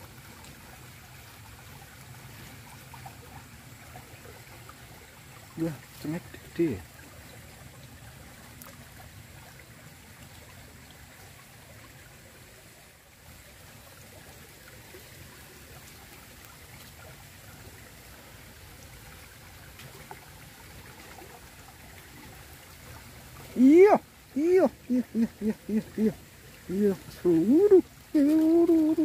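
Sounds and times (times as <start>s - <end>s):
stream flowing: 0.0s - 29.0s.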